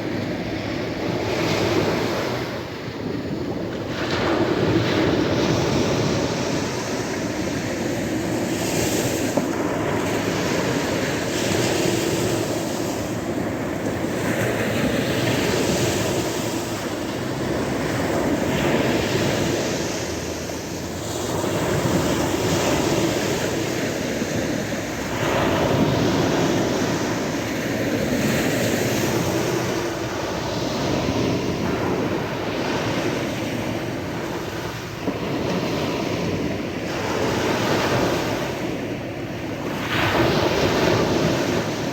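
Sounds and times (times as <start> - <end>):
sea waves washing onto shore: 0.0 - 41.9.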